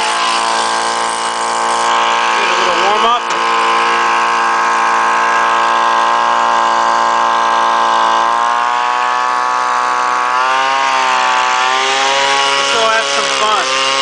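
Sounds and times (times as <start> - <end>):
leaf blower engine running: 0.0 - 14.0.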